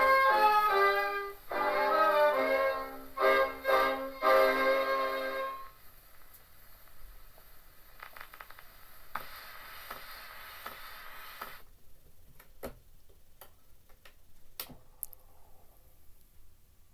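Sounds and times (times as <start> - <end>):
record surface hiss: 0.0 - 16.9.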